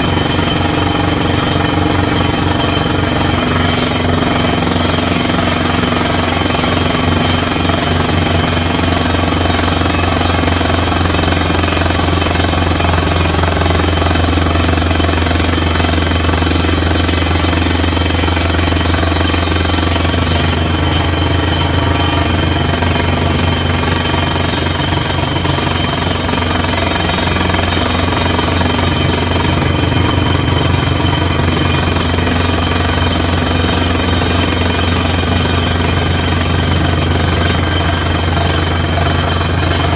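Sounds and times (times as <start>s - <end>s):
drill hammering: 0.0s - 39.9s
engine and compressor drone: 0.0s - 39.9s.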